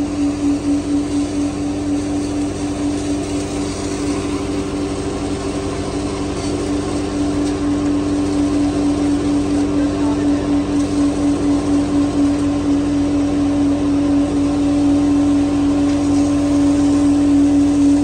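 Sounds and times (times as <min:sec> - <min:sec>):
engine and pump humming: 0:00.0 - 0:18.0
high-pressure water jet hissing: 0:00.0 - 0:18.0.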